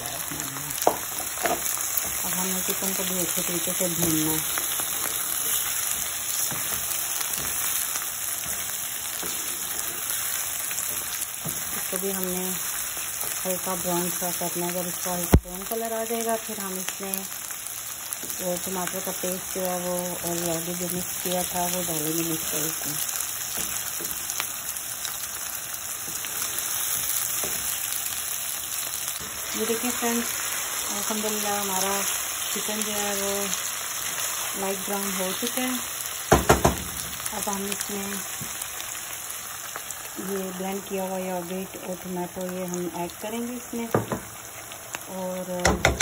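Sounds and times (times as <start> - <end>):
chicken sizzling in oil: 0.0 - 46.0.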